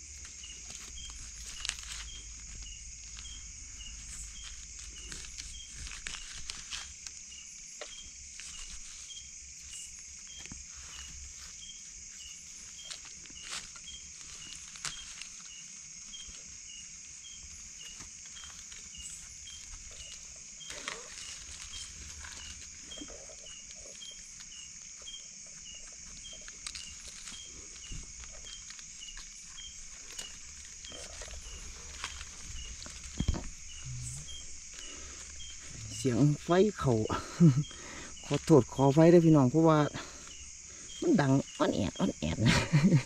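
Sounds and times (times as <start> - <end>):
scraping and rustling in leaf litter: 0.0 - 41.7
night insects chirping: 0.0 - 43.0.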